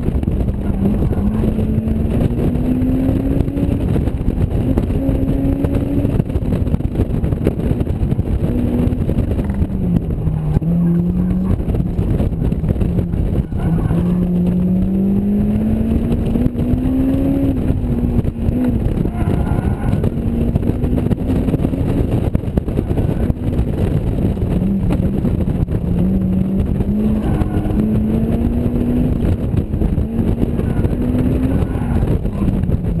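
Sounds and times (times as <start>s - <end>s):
car engine accelerating: 0.0s - 33.0s
wind rumble: 0.0s - 33.0s.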